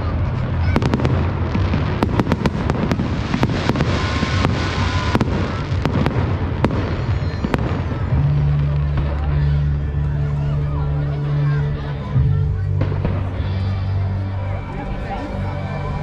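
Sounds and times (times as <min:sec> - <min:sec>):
fireworks bangs and crackles: 0:00.0 - 0:11.4, 0:12.2 - 0:14.4.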